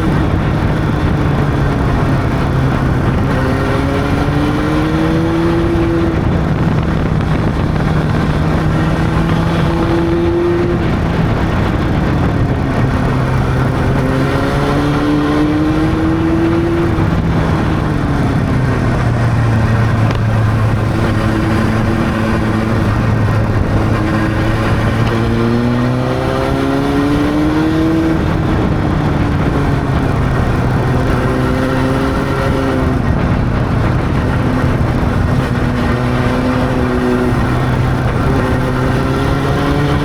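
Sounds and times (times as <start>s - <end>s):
constant rush of noise: 0.0s - 40.0s
motorcycle engine accelerating: 0.0s - 40.0s.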